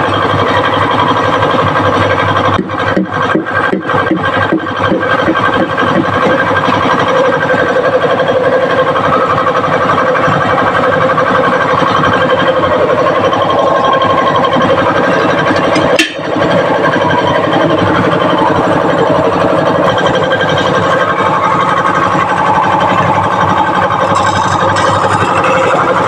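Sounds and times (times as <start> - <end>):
tyre changer motor spinning wheel: 0.0 - 26.0.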